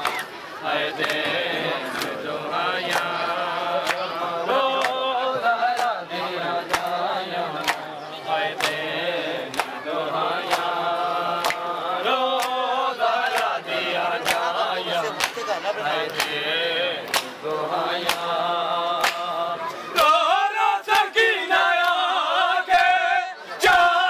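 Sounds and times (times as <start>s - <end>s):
men chanting: 0.6s - 24.0s.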